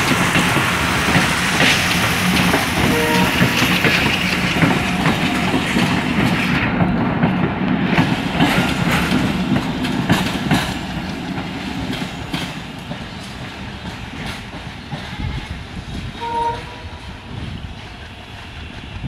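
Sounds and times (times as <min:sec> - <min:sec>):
train wheels clattering over rail joints: 0:00.0 - 0:16.2.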